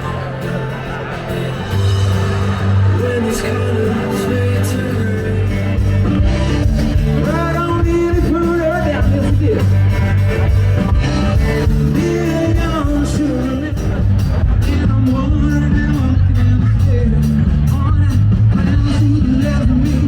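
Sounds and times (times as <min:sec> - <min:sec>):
band music: 0:00.0 - 0:20.0
guitar: 0:00.0 - 0:20.0
heavy bass line: 0:00.0 - 0:20.0
person singing: 0:01.7 - 0:20.0.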